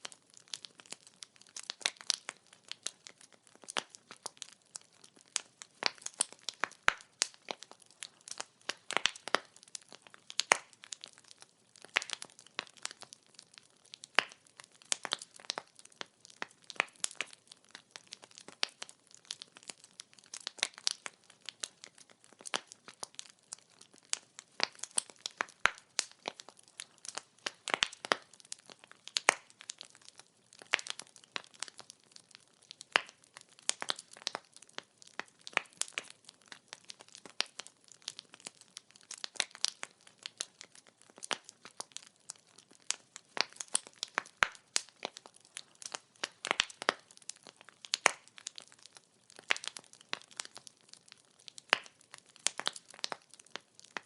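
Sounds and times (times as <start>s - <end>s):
faint steady hiss: 0.0s - 54.0s
firewood crackling and popping: 0.0s - 54.0s.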